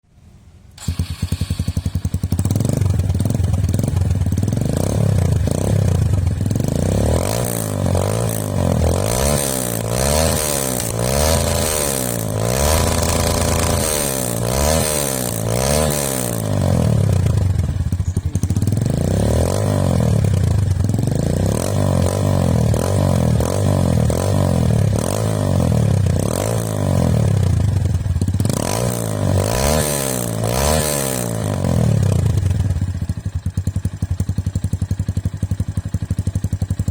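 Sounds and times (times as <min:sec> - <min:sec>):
motorcycle engine revving: 0:00.8 - 0:36.9.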